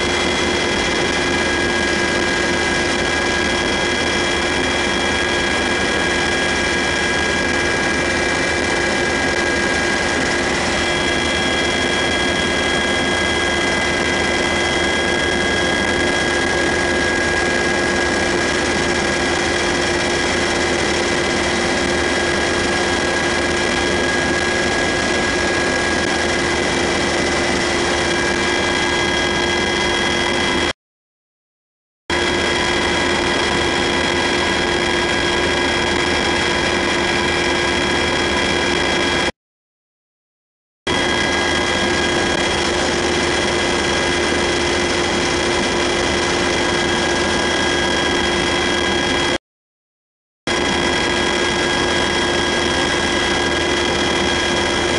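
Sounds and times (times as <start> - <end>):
constant high whine: 0.0 - 30.7, 32.1 - 39.3, 40.9 - 49.4, 50.5 - 54.9
helicopter cabin engine and rotor din: 0.0 - 30.8, 32.1 - 39.3, 40.9 - 49.4, 50.5 - 54.9.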